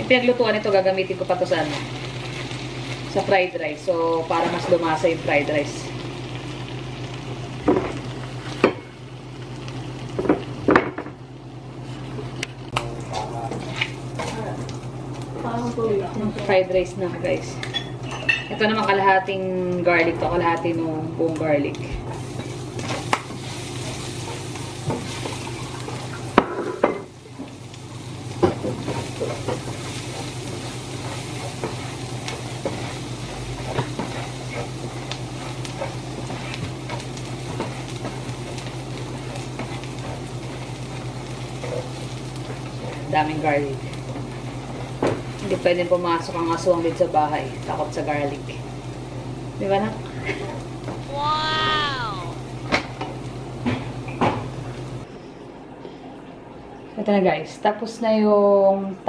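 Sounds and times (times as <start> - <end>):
faint sizzle of fat: 0.0 - 52.7.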